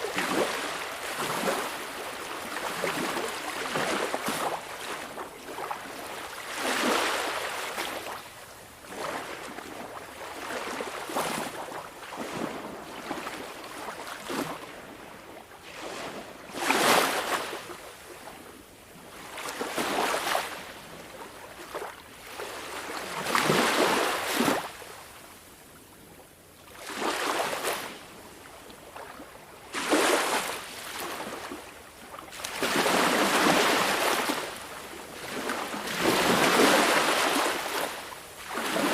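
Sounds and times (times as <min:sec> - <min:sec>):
small waves washing onto shore: 0:00.0 - 0:25.6, 0:26.6 - 0:38.9.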